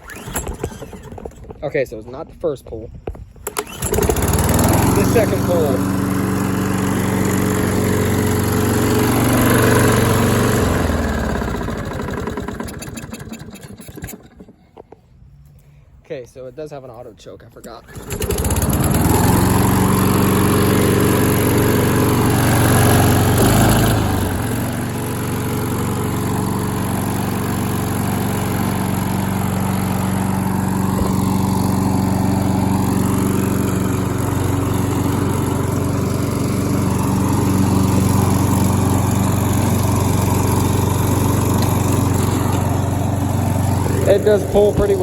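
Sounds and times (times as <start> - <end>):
lawn mower engine running: 0.0 - 1.9, 3.4 - 14.9, 17.6 - 45.0.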